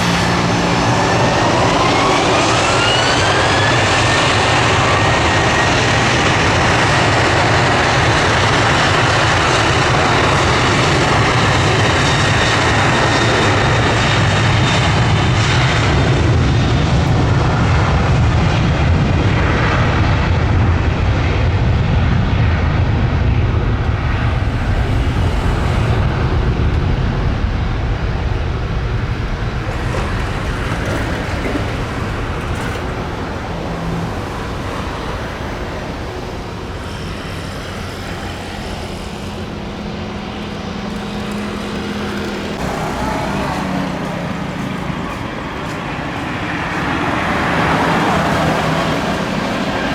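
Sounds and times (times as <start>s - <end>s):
high jet engine whine: 0.0s - 49.9s
jet airliner engines roaring: 0.0s - 49.9s.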